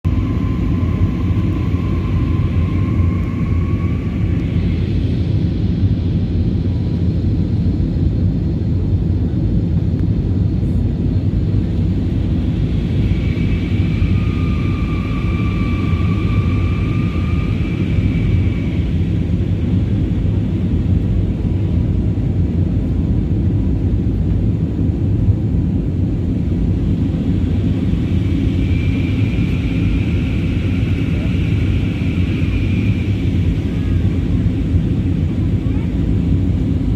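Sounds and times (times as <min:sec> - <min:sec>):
high engine whine: 0:00.0 - 0:36.9
jet engines low rumble: 0:00.0 - 0:36.9.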